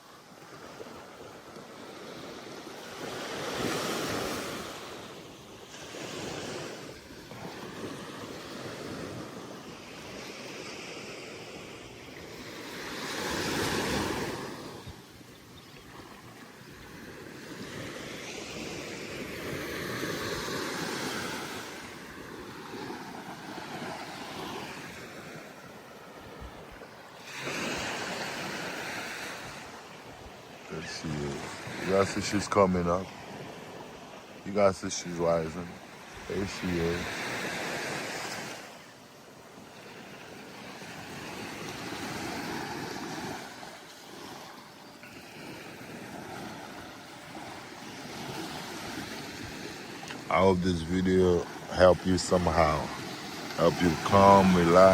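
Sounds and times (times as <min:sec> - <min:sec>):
surf washing onto beach: 0:00.0 - 0:54.9.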